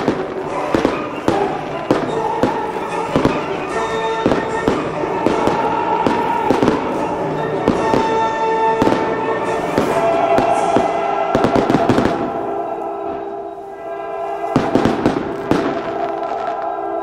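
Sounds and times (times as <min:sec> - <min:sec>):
fireworks bursting: 0:00.0 - 0:17.0
music playing: 0:00.0 - 0:17.0.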